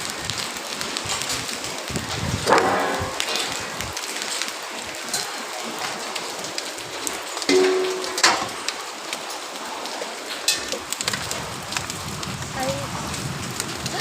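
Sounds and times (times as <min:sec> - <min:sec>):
hail knocking on surfaces: 0:00.0 - 0:14.0
heavy rain: 0:00.0 - 0:14.0.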